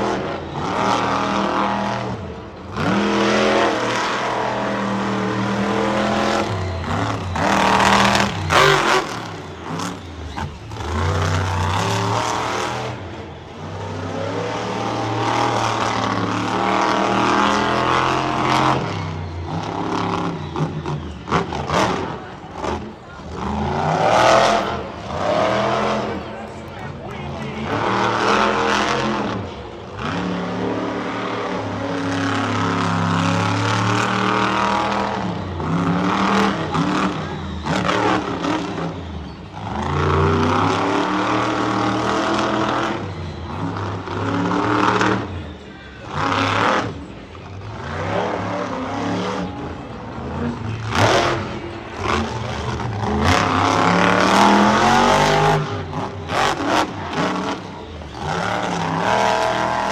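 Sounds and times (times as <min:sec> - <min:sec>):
monster truck engine revving: 0:00.0 - 0:59.9.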